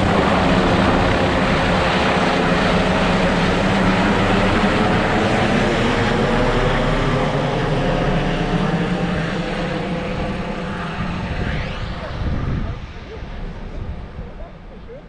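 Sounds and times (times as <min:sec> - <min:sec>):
aircraft engine drone in cabin: 0:00.0 - 0:15.0.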